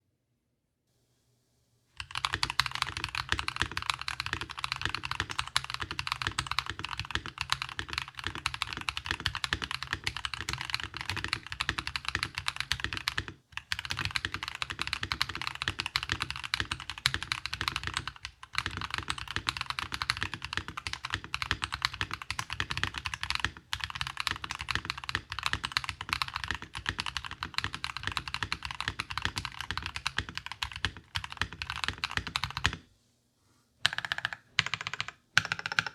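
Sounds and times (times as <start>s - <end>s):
fast mechanical keyboard typing: 2.0s - 32.8s, 33.8s - 35.9s.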